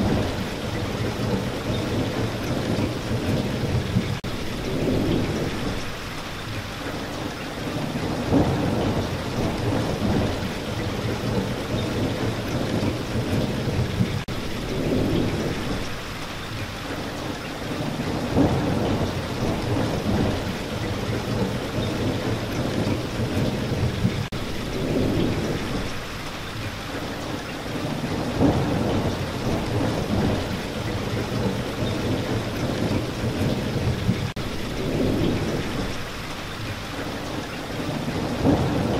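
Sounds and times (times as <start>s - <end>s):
thunder rumbling: 0.0s - 6.0s, 7.6s - 16.0s, 17.6s - 26.1s, 27.7s - 36.2s, 37.4s - 38.9s
heavy rain: 0.0s - 38.9s.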